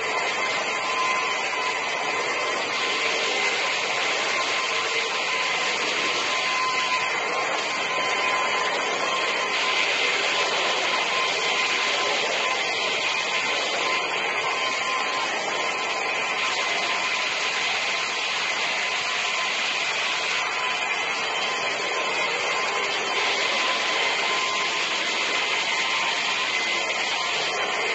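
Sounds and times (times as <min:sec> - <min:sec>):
vacuum motor whining: 0:00.0 - 0:27.9.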